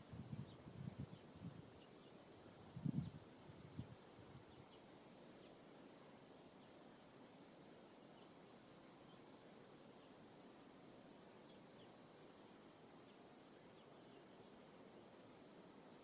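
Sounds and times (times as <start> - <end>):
faint outdoor hiss: 0.0 - 16.0
small birds chirping: 0.0 - 16.0.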